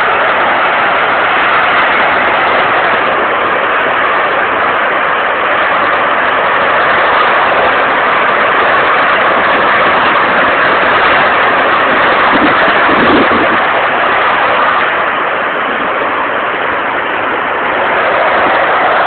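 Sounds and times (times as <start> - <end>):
loud rushing fire: 0.0 - 19.0.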